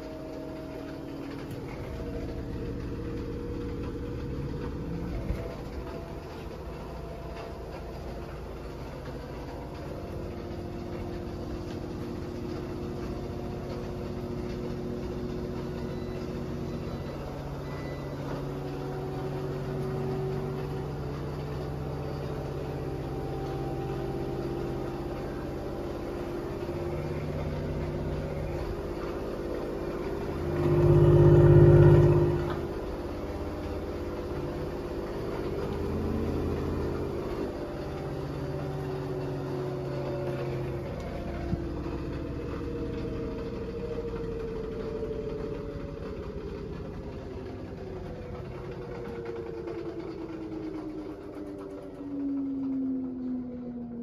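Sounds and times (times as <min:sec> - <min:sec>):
loud low hum: 0:00.0 - 0:54.0
washing machine spinning with hum: 0:00.0 - 0:54.0.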